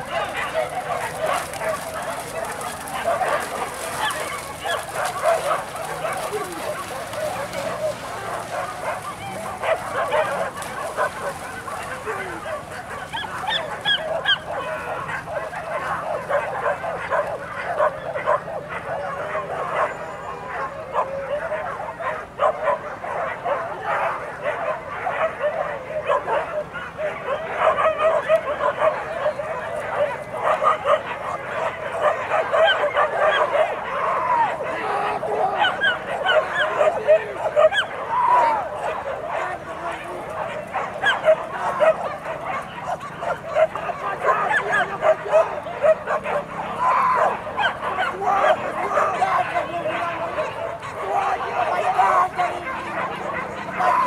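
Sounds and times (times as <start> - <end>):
dogs barking and yelping: 0.0 - 54.0.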